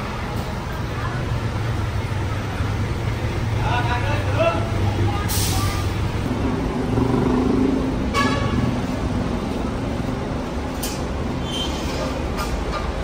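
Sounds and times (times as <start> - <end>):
bus engines rumbling: 0.0 - 13.0.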